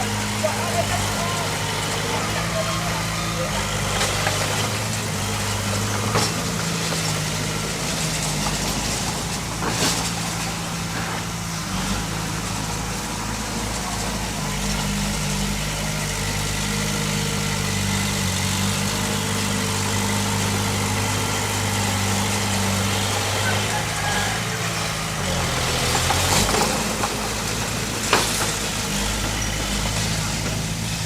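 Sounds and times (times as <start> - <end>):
heavy machinery engine running: 0.0 - 31.0.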